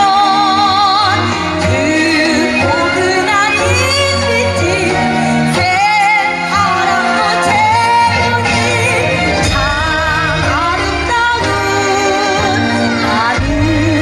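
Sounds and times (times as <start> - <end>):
instrumental accompaniment: 0.0 - 14.0
woman singing with vibrato: 0.0 - 14.0.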